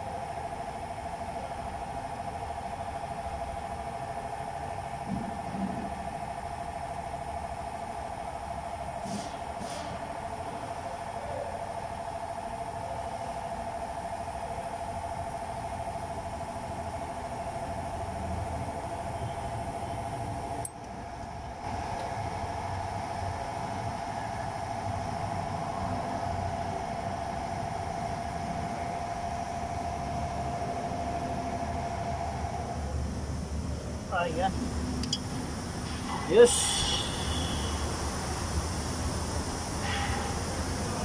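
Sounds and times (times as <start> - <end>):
mid-pitched hum: 0.0 - 41.0.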